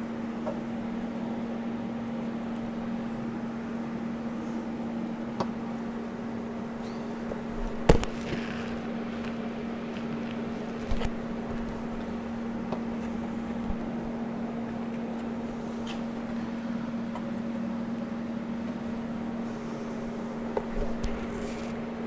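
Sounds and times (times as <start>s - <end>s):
electrical hum of welding equipment: 0.0s - 22.0s.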